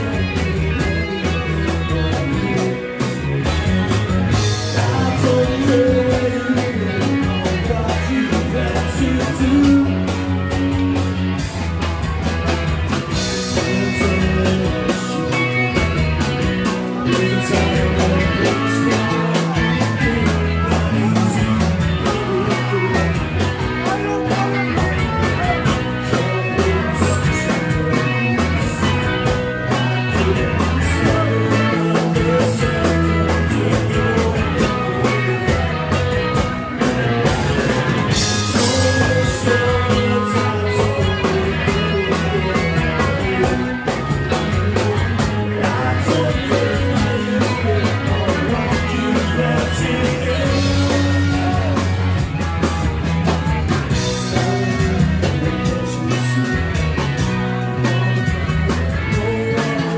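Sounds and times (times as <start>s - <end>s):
guitar: 0.0s - 59.9s
rock band playing: 0.0s - 59.9s
steady drum beat: 0.0s - 59.9s
stepping bass line: 0.0s - 59.9s.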